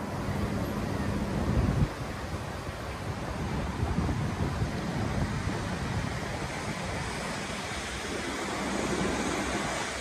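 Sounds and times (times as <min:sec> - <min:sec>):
city street traffic: 0:00.0 - 0:10.0
wind rumbling on microphone: 0:00.0 - 0:10.0.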